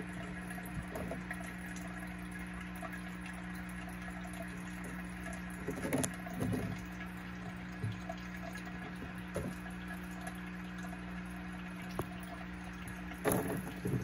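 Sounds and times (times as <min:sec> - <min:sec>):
aquarium water trickling: 0:00.0 - 0:14.0
low pump hum: 0:00.0 - 0:14.0
water gurgles: 0:00.0 - 0:14.0.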